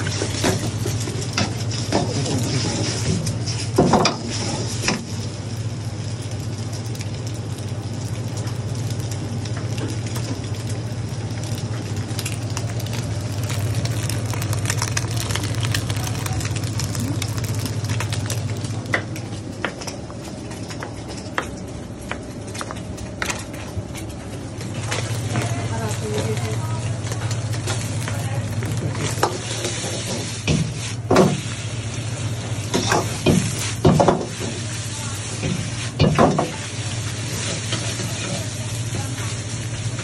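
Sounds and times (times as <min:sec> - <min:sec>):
eggs frying in a wok: 0:00.0 - 0:40.0.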